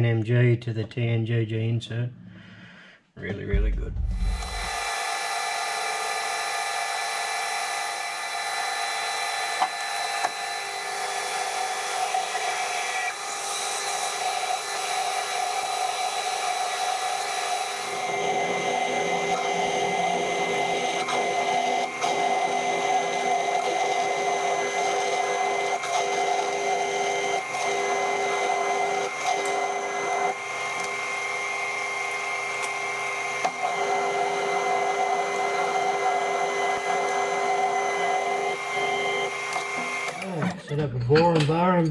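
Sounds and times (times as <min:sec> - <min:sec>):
drill boring into metal: 0:04.2 - 0:40.3
metal lathe whine: 0:04.2 - 0:40.3.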